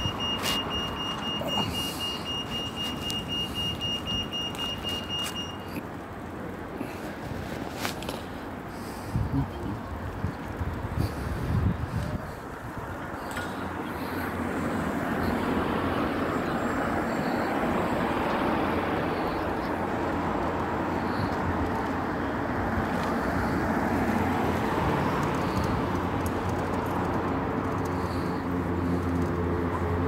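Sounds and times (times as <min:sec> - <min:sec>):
heavy vehicle engine hum: 0:00.0 - 0:30.0
vehicle engines running: 0:00.0 - 0:30.0.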